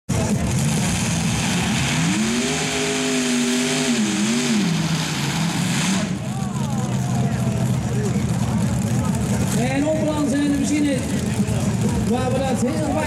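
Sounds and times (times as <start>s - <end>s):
tractor engine revving: 0.1s - 13.0s.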